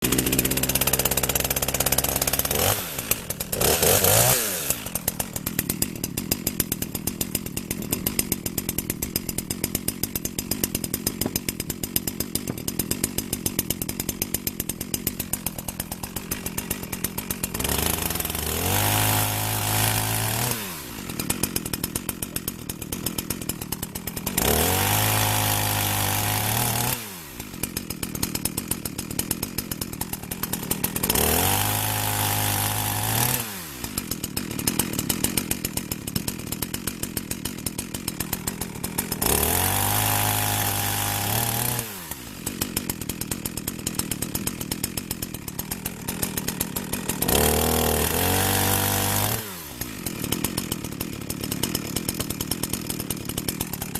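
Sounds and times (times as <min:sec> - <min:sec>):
chainsaw revving and idling: 0:00.0 - 0:53.9.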